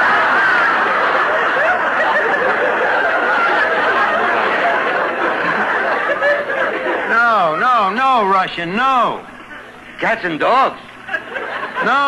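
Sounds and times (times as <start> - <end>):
studio audience laughing: 0.0 - 8.3, 9.2 - 12.0.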